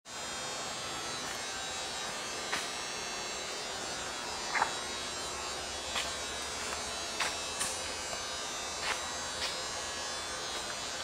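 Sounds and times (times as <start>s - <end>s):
steady buzzing hum: 0.1s - 11.0s.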